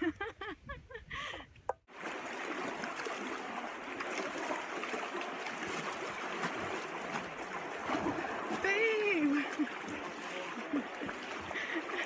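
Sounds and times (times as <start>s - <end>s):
shallow river rushing: 1.9s - 12.0s.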